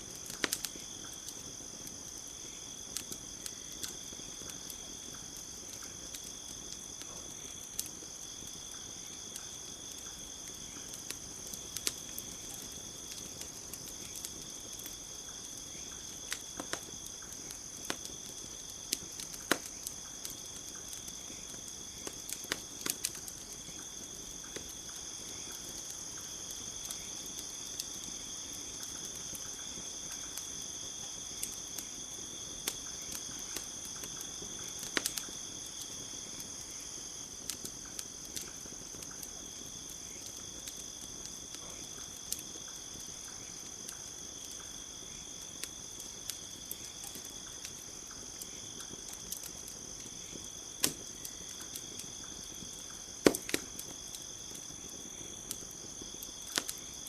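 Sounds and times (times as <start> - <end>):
campfire crackling: 0.0 - 57.0
high-pitched insect chorus: 0.0 - 57.0.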